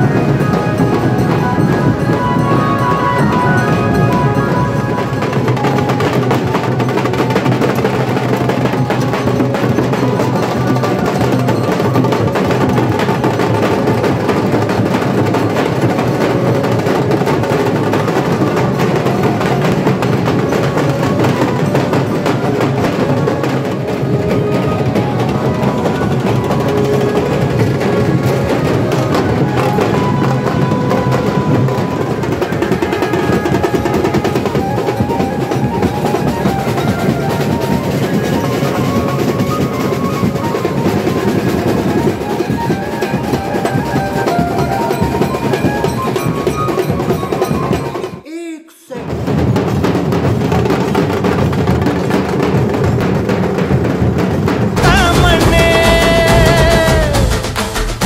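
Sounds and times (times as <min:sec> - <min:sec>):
procession music with fast drumming: 0:00.0 - 0:48.3, 0:49.0 - 0:58.0.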